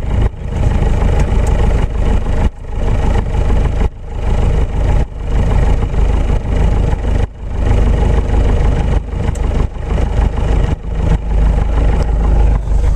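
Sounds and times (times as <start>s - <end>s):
light aircraft engine droning: 0.0s - 12.9s.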